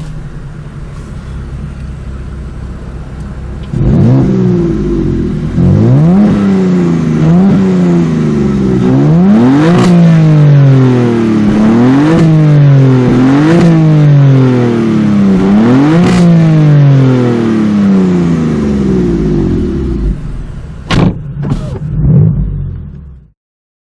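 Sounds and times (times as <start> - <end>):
car engine revving and idling: 0.0 - 23.4.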